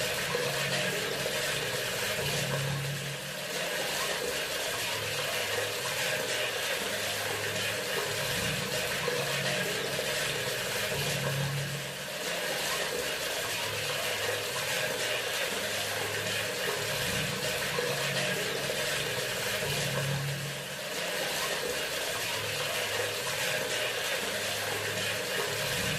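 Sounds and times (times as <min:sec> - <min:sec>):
faucet water pouring into sink: 0:00.0 - 0:25.9.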